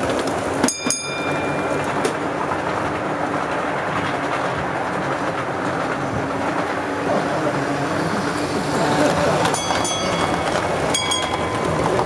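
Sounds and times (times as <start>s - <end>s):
model train wheels rumbling on rails: 0.0s - 12.0s.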